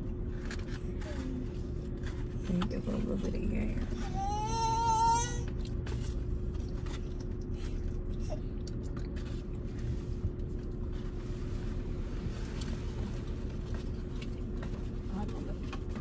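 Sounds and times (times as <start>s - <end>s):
car idling hum: 0.0s - 16.0s.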